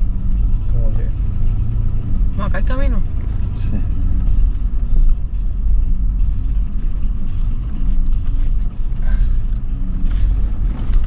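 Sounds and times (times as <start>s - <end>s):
suv engine rumbling while driving: 0.0s - 11.0s.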